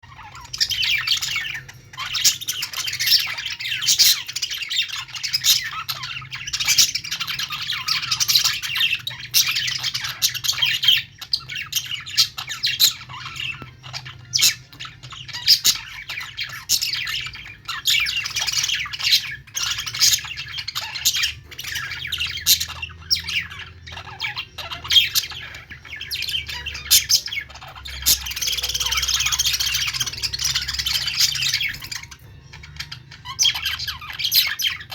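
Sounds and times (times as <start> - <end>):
budgies chattering and chirping: 0.0 - 34.9.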